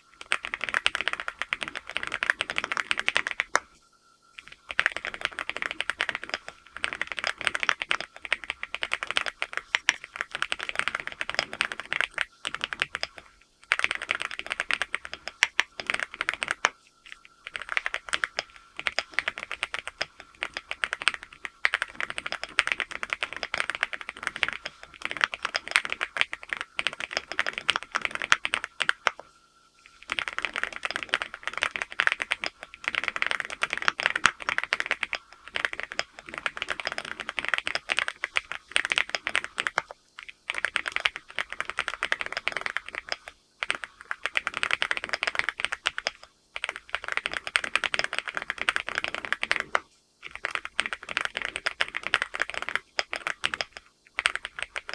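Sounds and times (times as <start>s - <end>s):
mechanical keyboard typing: 0.0s - 3.7s, 4.4s - 29.3s, 29.9s - 54.9s.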